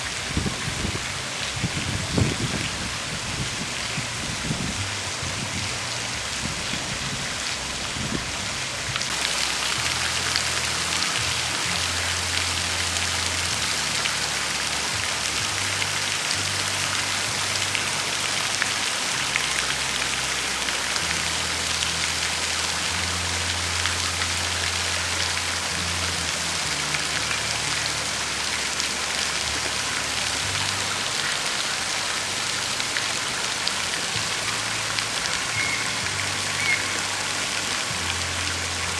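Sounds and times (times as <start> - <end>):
hiss of falling water: 0.0 - 38.9
low bass notes: 0.0 - 38.9.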